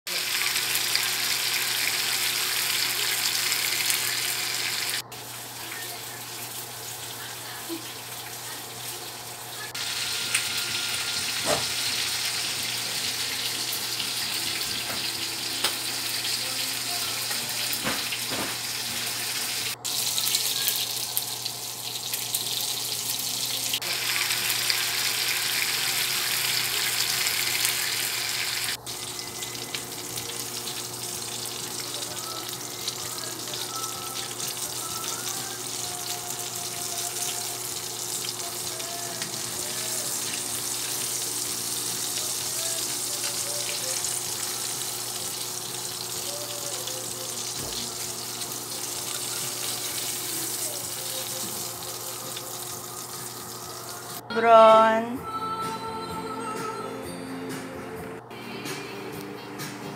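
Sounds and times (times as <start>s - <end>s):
fish frying in hot oil: 0.1s - 5.9s, 9.7s - 54.2s.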